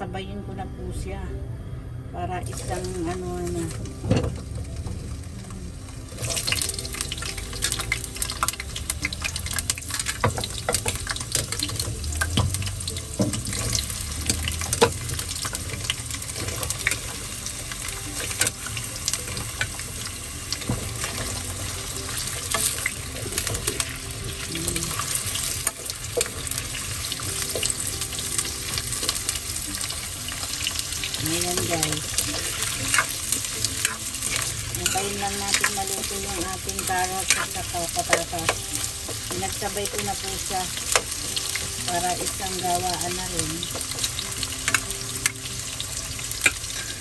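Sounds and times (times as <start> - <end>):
vegetables sizzling in hot oil: 2.4 - 47.0.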